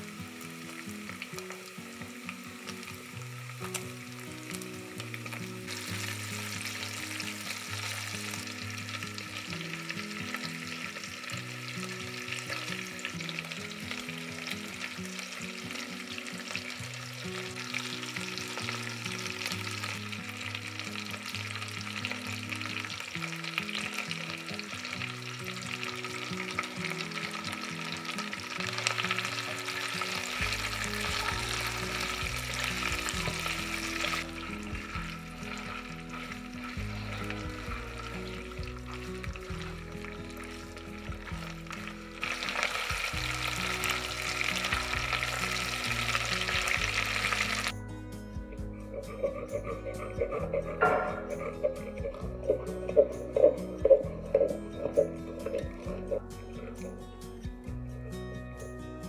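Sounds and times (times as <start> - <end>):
meat sizzling in hot oil: 0.0 - 47.8.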